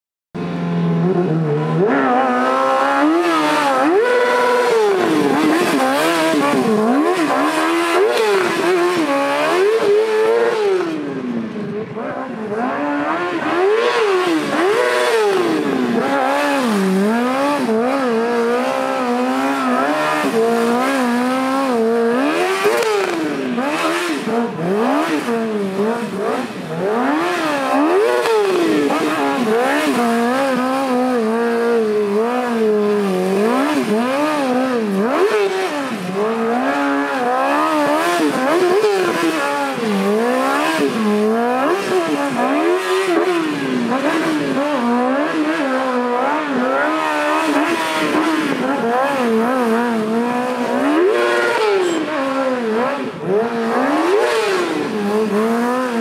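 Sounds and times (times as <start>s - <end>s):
motorcycle engine revving: 0.4s - 56.0s.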